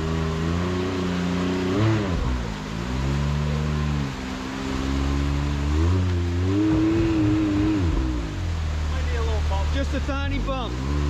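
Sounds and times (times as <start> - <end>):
engine revving under throttle: 0.0 - 11.0.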